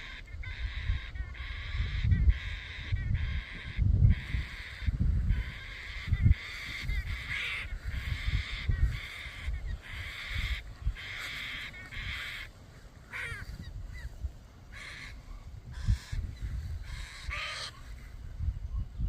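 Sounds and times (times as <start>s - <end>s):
cockatoos screeching: 0.0s - 14.1s, 15.8s - 18.0s.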